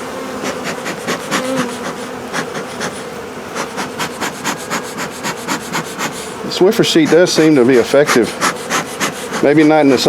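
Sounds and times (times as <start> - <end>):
honeybees buzzing: 0.0 - 10.0
short scraping strokes: 0.4 - 10.0.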